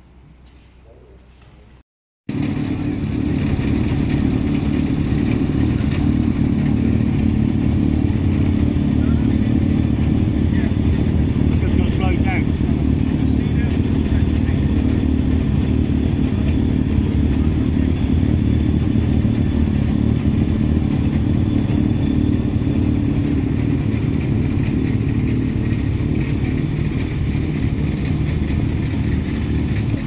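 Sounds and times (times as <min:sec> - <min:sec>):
rally car engine idling: 0:02.3 - 0:30.0.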